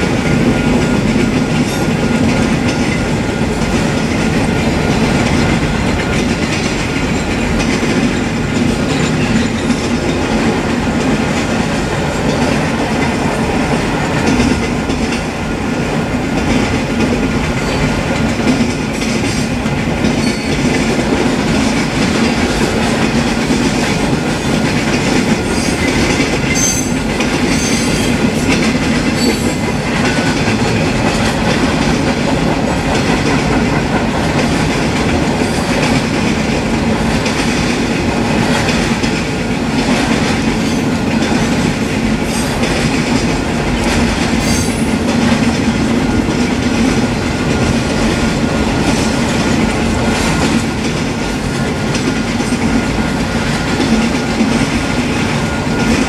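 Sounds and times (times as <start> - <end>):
train wheels rumbling on rails: 0.0 - 56.0
wheels clickety-clack on rail joints: 0.0 - 56.0.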